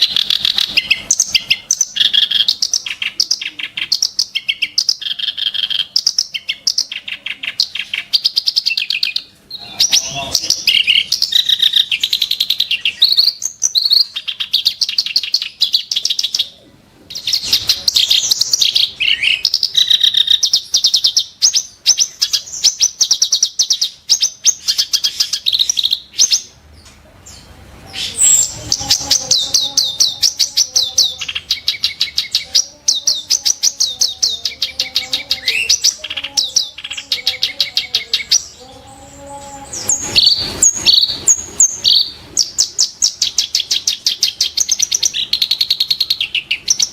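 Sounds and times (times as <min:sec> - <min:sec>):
warbler singing harsh notes: 0:00.0 - 0:46.9.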